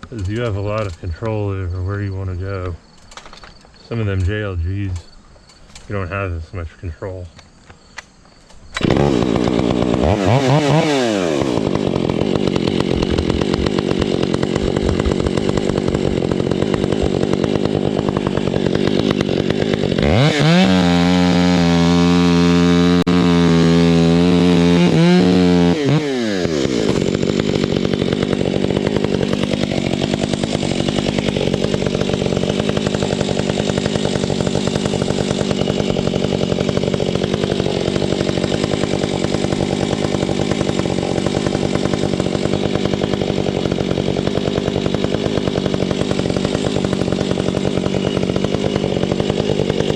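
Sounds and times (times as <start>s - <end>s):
chainsaw revving: 0.0s - 5.1s, 5.8s - 7.2s, 8.7s - 49.9s.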